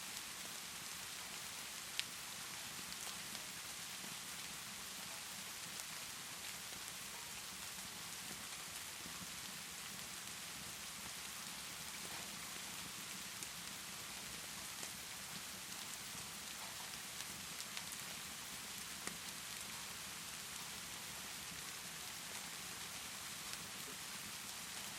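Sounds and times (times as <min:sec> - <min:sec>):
steady rain hiss: 0:00.0 - 0:24.9
wood fire crackling: 0:00.2 - 0:24.9.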